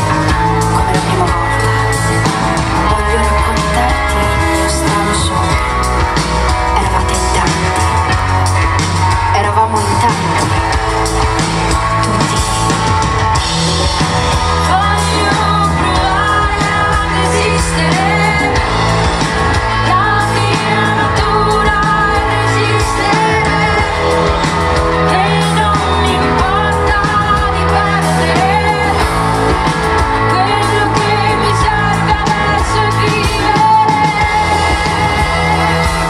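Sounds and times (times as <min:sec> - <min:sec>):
drum kit: 0:00.0 - 0:36.0
electric bass: 0:00.0 - 0:36.0
electric guitar: 0:00.0 - 0:36.0
woman singing lead: 0:00.0 - 0:36.0.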